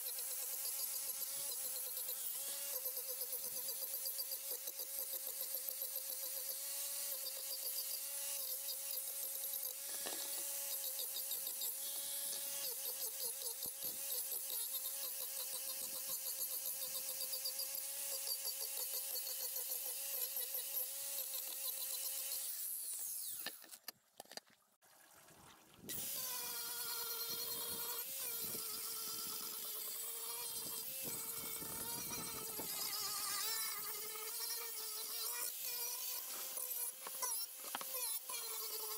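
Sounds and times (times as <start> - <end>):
angle grinder sanding wood: 0.0 - 23.6, 25.9 - 38.9.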